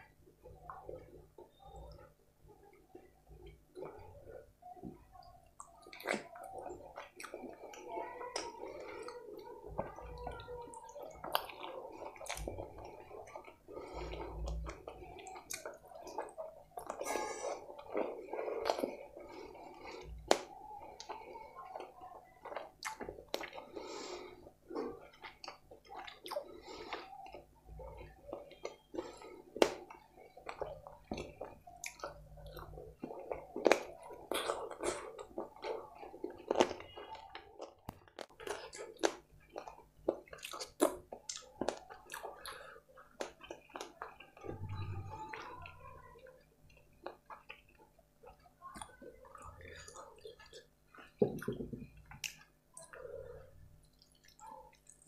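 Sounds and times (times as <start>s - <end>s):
wet chewing and lip-smacking: 2.7s - 55.0s.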